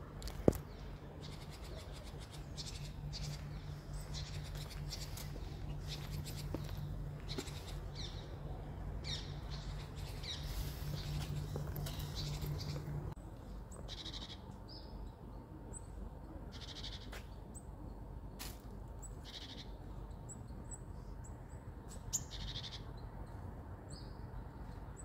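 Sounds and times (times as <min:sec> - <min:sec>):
steady low hum: 0:00.0 - 0:22.1
birds singing and chirping: 0:00.3 - 0:18.0, 0:19.0 - 0:25.0.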